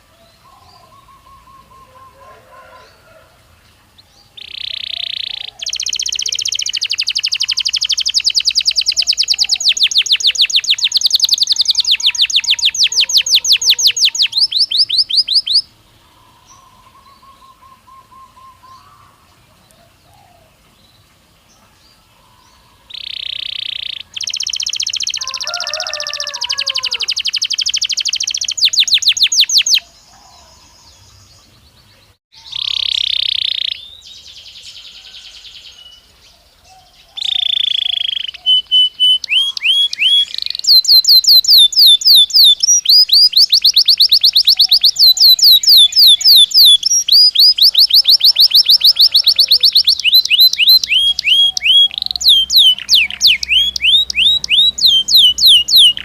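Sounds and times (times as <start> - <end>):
canary trilling song: 0.0 - 19.2, 22.2 - 36.0, 36.8 - 56.0
faint bird chirping: 0.0 - 56.0.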